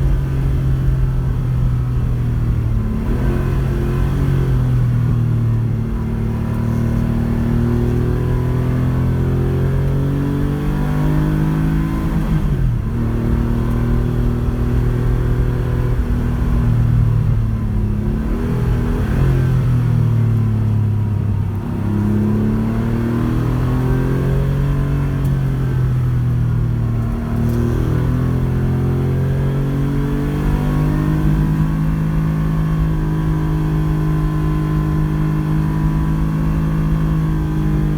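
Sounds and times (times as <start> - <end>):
rally car engine accelerating: 0.0 - 37.9.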